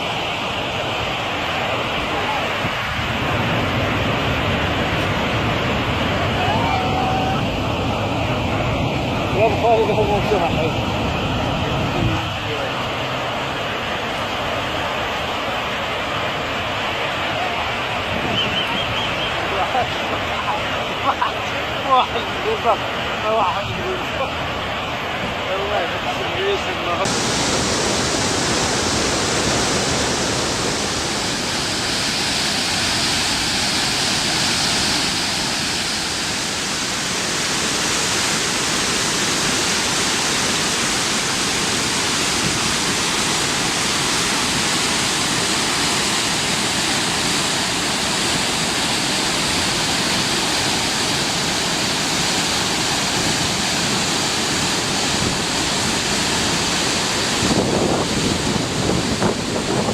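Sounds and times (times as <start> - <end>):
rushing floodwater: 0.0 - 59.9.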